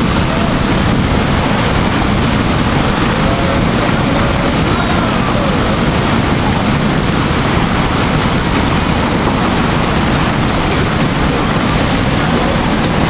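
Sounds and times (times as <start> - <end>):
whitewater rapids roaring: 0.0 - 13.0.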